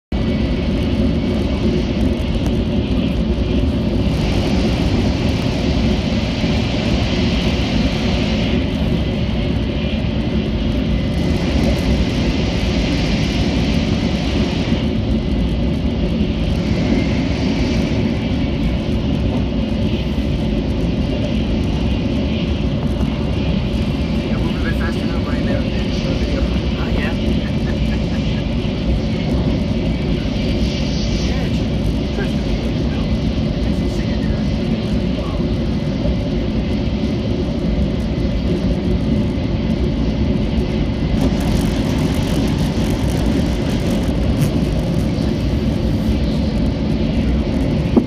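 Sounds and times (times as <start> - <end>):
train running noise inside cabin: 0.1 - 48.0.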